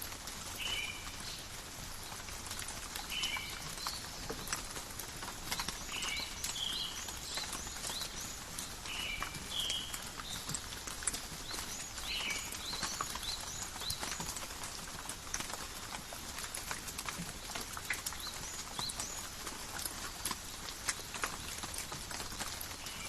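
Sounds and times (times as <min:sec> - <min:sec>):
rain falling in a forest: 0:00.0 - 0:23.0.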